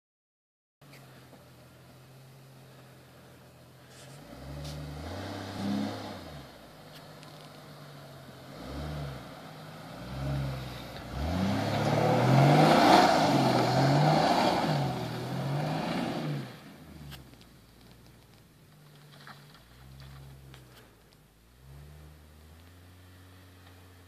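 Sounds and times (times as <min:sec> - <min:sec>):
car engine revving: 0:00.9 - 0:24.0.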